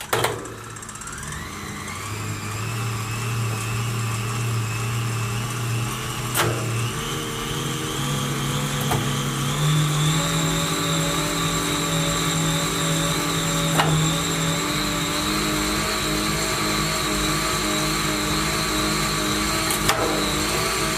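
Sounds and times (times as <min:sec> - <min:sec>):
trainer humming and whining: 0:00.6 - 0:20.9.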